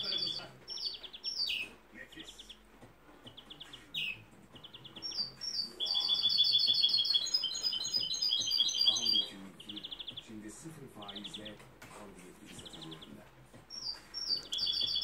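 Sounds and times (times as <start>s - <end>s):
finch trilling song: 0.0s - 2.6s, 3.2s - 11.6s, 12.5s - 15.0s.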